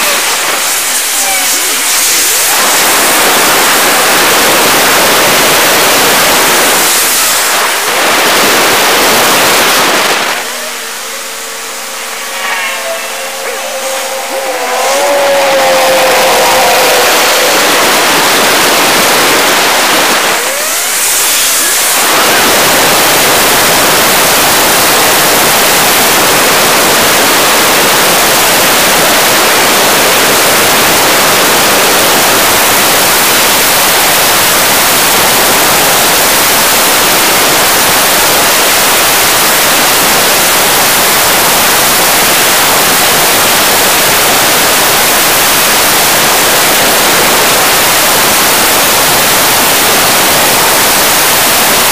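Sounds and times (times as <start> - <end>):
static-like hiss: 0.0 - 51.9.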